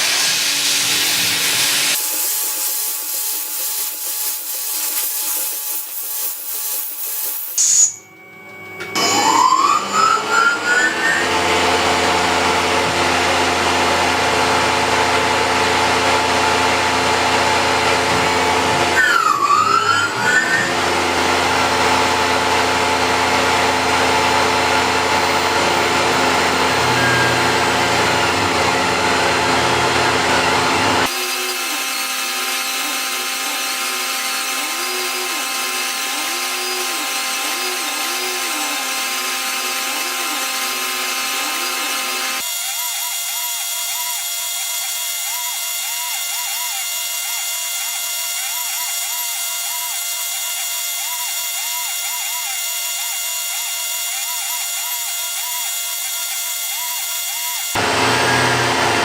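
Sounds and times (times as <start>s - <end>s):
pulsing machine sound: 0.0s - 14.8s, 16.5s - 59.0s
spindle motor whining: 1.2s - 14.8s, 17.3s - 59.0s.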